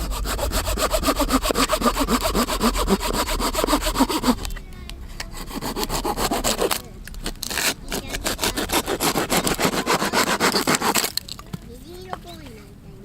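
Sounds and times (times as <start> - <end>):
handsaw cutting wood: 0.0 - 4.6, 5.2 - 11.2.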